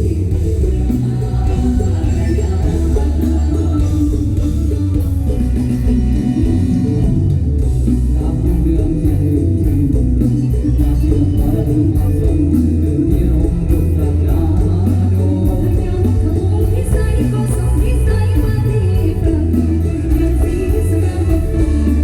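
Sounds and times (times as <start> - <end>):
heavy bass line: 0.0 - 22.0
person singing: 0.0 - 22.0
plucked guitar: 0.0 - 22.0.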